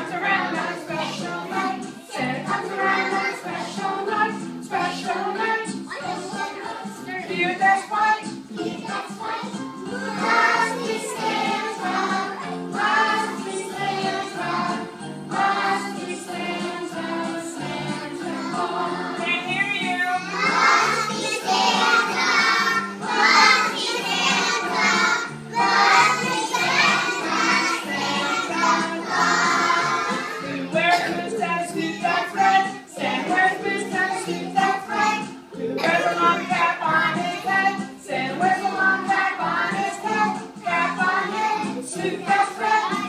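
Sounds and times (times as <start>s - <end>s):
young children singing: 0.0s - 43.0s
instrumental accompaniment: 8.3s - 43.0s.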